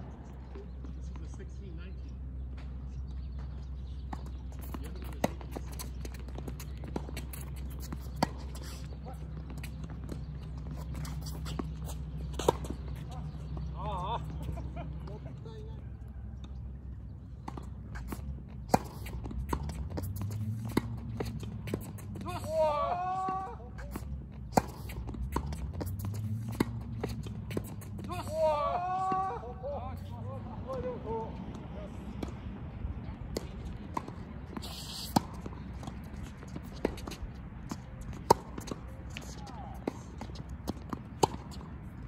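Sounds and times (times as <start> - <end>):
tennis ball hits and bounces: 2.5 - 15.1, 16.4 - 42.0.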